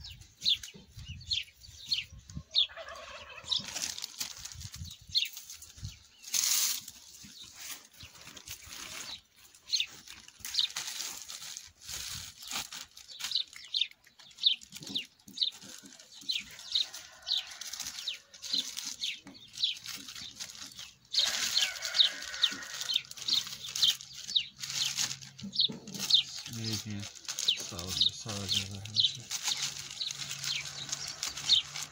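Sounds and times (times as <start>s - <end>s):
plastic bag crinkling: 3.5s - 31.9s.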